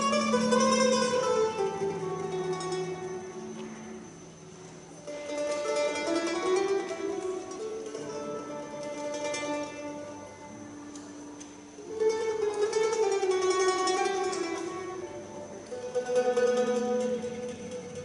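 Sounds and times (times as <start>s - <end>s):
guitar: 0.0s - 18.0s
mandolin: 0.0s - 18.0s.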